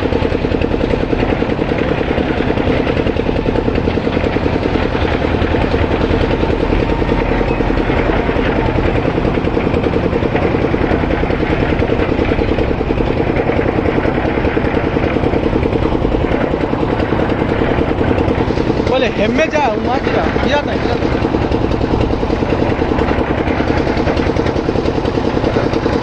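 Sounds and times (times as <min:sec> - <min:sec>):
heavy diesel engine chugging: 0:00.0 - 0:26.0.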